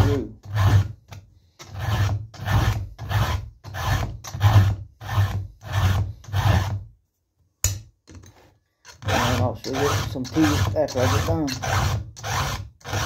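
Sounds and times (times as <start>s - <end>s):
file rasping on chainsaw chain: 0.0s - 6.8s, 8.8s - 13.0s.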